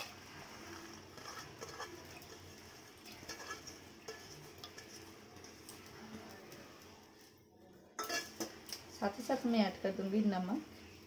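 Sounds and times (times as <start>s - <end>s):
lentils pattering into a pot: 0.0s - 11.0s.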